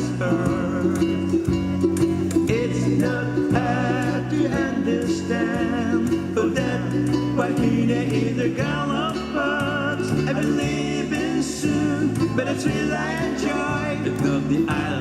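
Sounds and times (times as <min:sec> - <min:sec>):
instrumental accompaniment: 0:00.0 - 0:15.0
person singing: 0:00.0 - 0:15.0
steady bass line: 0:00.0 - 0:15.0.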